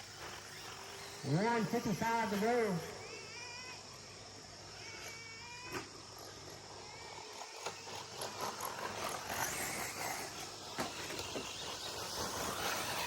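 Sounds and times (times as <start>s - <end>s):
rc truck motors and tyres hissing: 0.0s - 13.0s
short motor whines: 0.0s - 13.0s.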